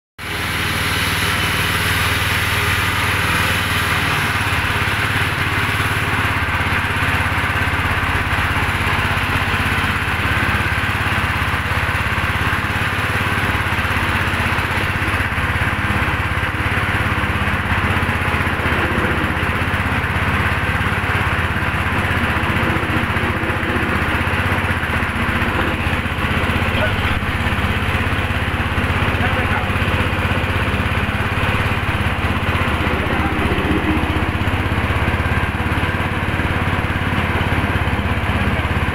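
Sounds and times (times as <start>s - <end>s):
grinding mill running: 0.2s - 38.9s.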